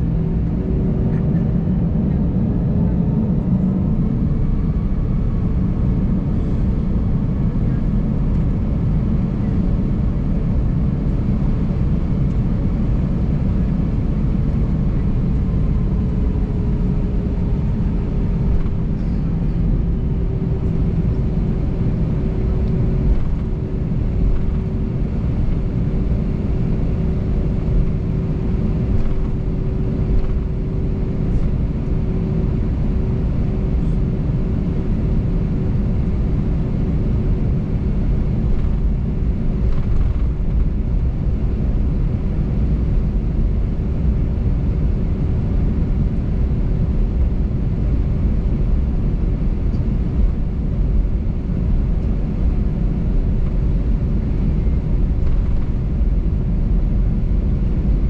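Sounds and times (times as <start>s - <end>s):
airplane cabin rumble: 0.0s - 58.0s
steady hum: 0.0s - 58.0s.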